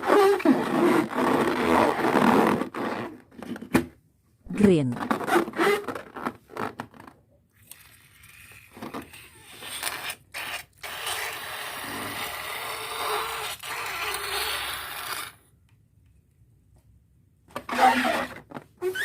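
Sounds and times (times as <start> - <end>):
rubber balloon rubbing: 0.0 - 4.0, 4.6 - 15.4, 17.5 - 19.0.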